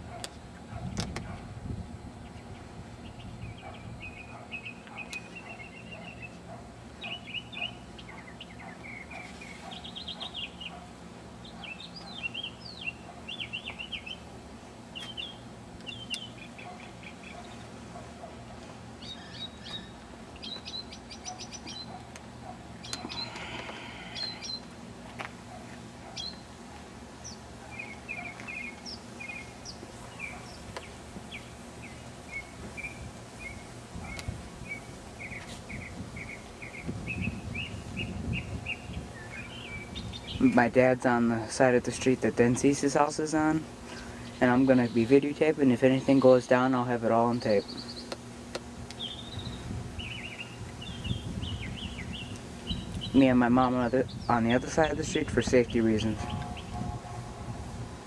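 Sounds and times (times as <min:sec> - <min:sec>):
low background hum: 0:00.0 - 0:58.0
songbirds chirping: 0:00.0 - 0:58.0.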